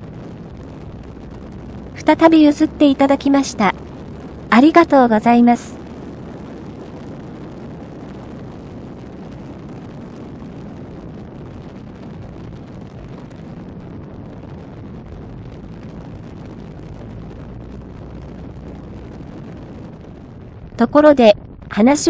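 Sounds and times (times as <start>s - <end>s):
low engine drone: 0.0s - 9.6s, 10.4s - 22.0s
wind rush: 0.0s - 22.0s.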